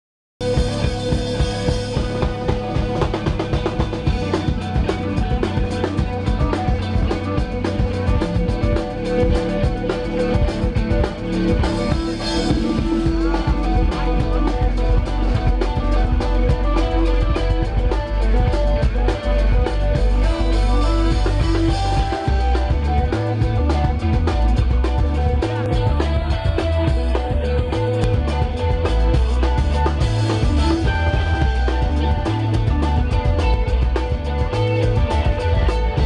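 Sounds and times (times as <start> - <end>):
live band playing: 0.4 - 36.0.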